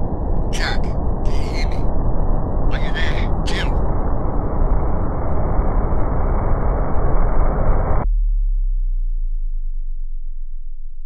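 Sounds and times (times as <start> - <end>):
deep steady low hum: 0.0 - 11.0
loud dense low rumble: 0.0 - 11.0.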